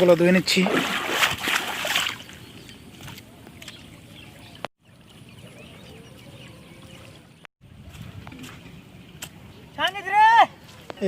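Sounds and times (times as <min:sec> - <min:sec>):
water splashing: 0:00.0 - 0:10.9.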